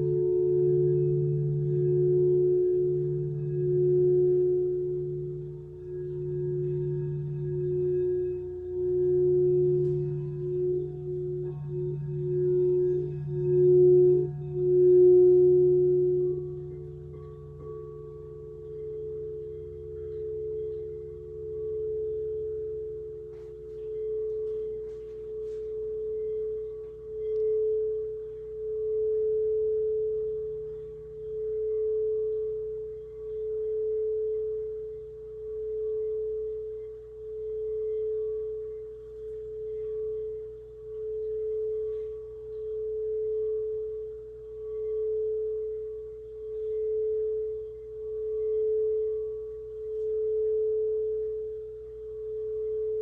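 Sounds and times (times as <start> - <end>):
lower singing bowl tone: 0.0 - 53.0
singing bowl steady pure tone: 0.0 - 53.0.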